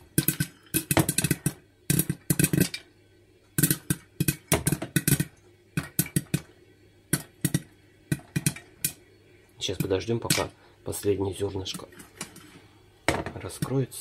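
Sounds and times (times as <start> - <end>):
popcorn popping in a pot: 0.0 - 2.9, 3.5 - 14.0.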